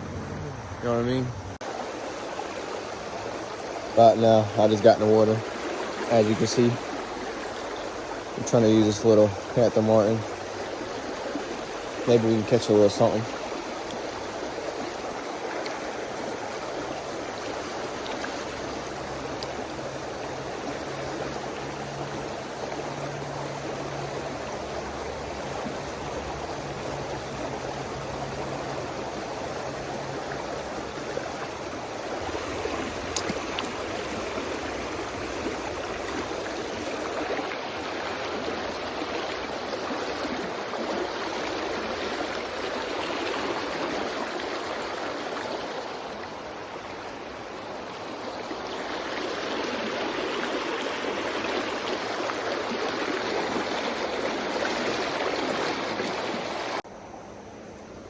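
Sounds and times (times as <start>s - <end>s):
river current rushing: 0.0s - 58.0s.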